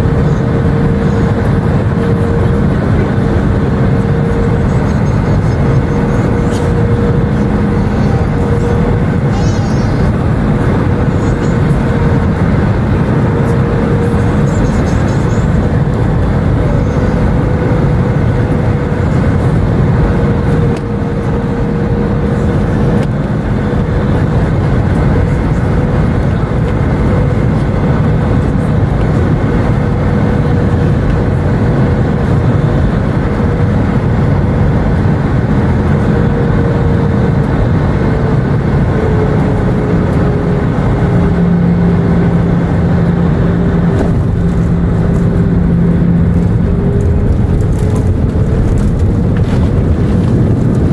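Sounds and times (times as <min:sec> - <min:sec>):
airplane cabin engine rumble: 0:00.0 - 0:50.9
hum dropping in pitch: 0:00.0 - 0:50.9.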